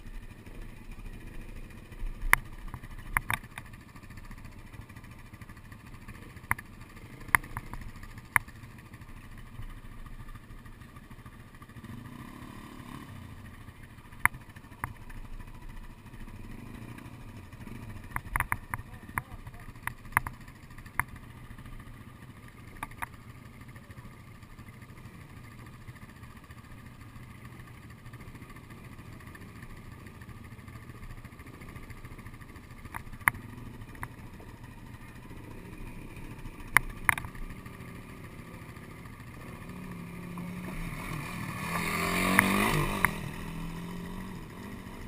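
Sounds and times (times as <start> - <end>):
dirt bike engine idling: 0.0 - 45.0.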